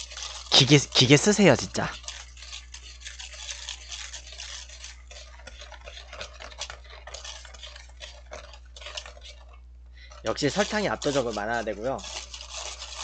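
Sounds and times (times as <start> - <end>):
whisk scraping metal bowl: 0.0 - 13.0.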